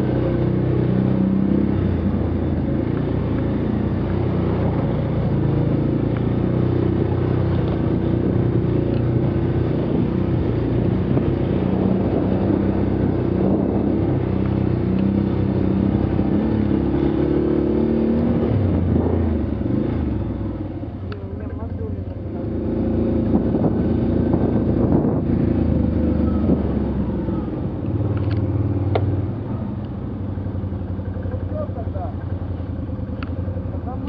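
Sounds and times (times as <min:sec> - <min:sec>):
vehicle engine revving while driving: 0:00.0 - 0:34.0.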